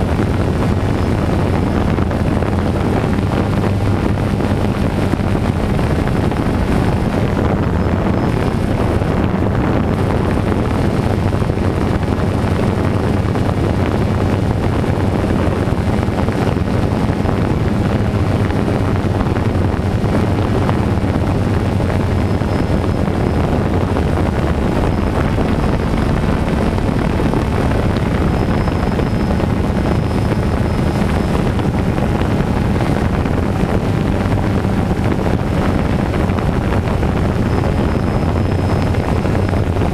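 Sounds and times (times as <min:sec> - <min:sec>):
drone propellers humming: 0:00.0 - 0:39.9
wind on microphone: 0:00.0 - 0:39.9.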